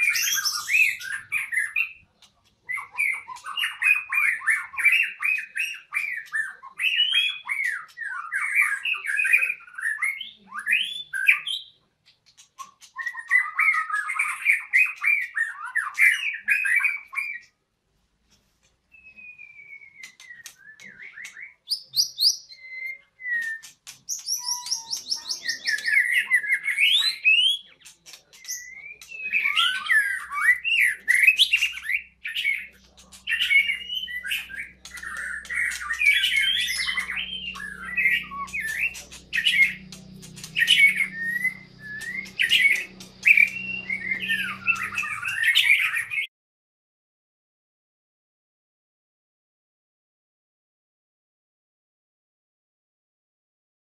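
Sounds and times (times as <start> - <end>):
songbird whistling and chattering: 0.0 - 17.6, 18.9 - 46.3.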